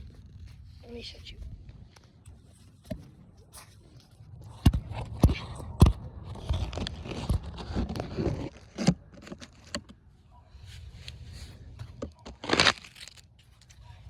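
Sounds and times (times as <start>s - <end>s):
scraping against microphone: 0.0s - 14.0s.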